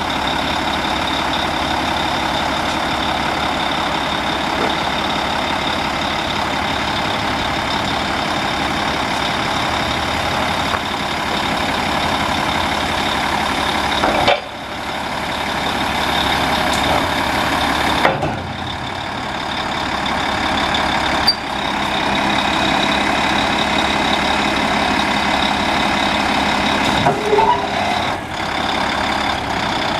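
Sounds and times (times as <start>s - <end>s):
truck engine running: 0.0s - 29.9s.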